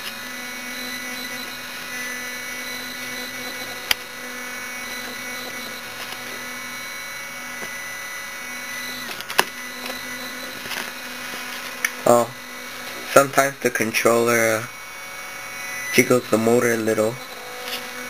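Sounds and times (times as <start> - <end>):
spindle motor whine: 0.0 - 18.0.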